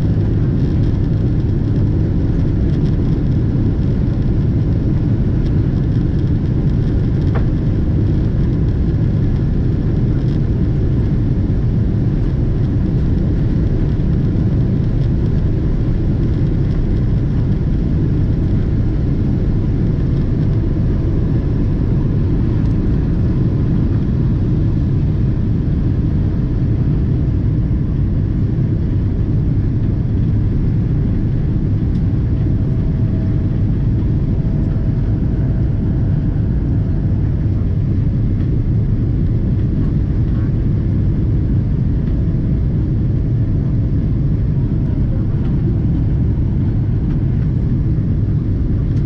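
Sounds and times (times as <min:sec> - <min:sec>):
airplane cabin engine drone: 0:00.0 - 0:49.0.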